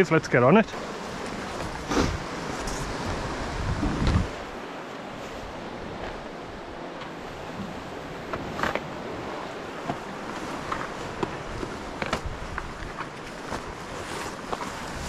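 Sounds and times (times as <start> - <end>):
sea swell washing against rocks: 0.6 - 15.0.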